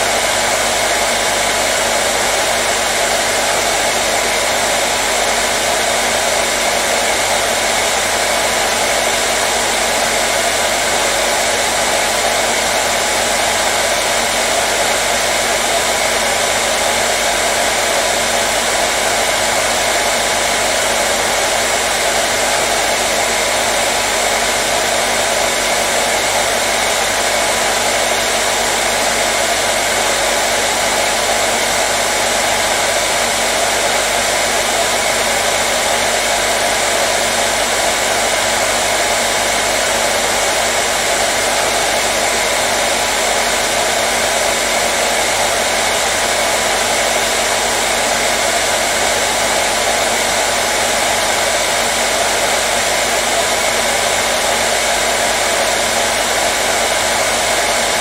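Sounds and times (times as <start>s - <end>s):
hairdryer blowing air: 0.0s - 58.0s.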